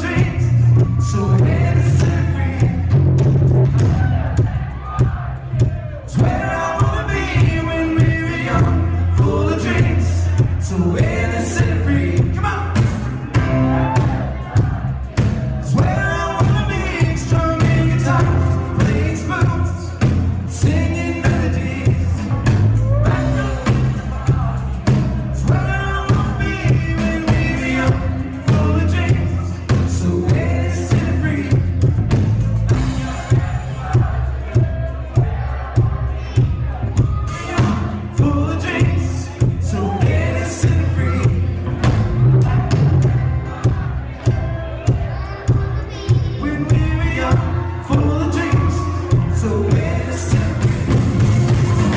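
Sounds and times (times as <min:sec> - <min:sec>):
live rock band playing: 0:00.0 - 0:51.9
man singing lead: 0:00.0 - 0:51.9.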